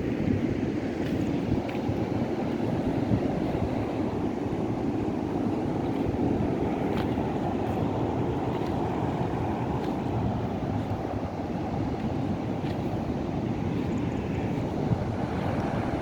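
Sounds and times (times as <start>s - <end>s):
ocean surf: 0.0s - 16.0s
wind rumbling on microphone: 0.0s - 16.0s.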